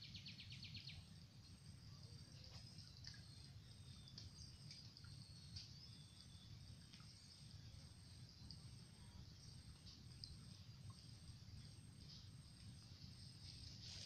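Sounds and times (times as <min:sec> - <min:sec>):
faint high chirps of birds and insects: 0:00.0 - 0:14.0
low steady rumble: 0:00.0 - 0:14.0.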